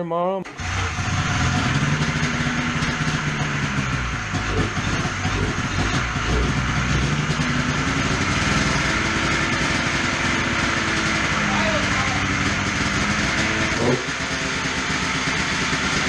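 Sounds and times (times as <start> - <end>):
two-stroke engine running: 0.5 - 16.0.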